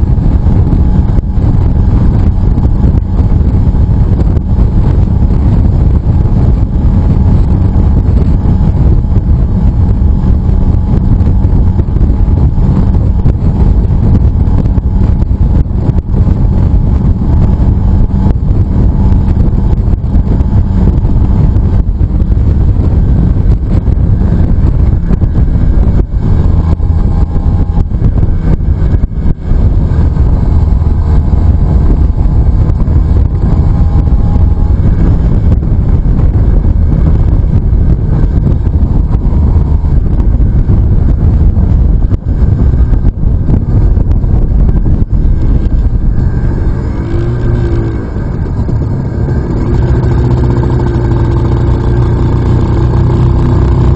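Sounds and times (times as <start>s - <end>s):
two-stroke motorcycle engine running: 0.0s - 53.9s
wind rushing on microphone: 0.0s - 53.9s.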